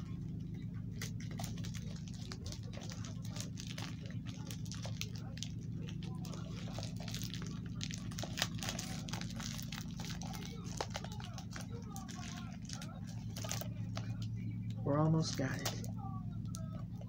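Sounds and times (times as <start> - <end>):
plastic wrap crinkling: 0.8 - 17.0.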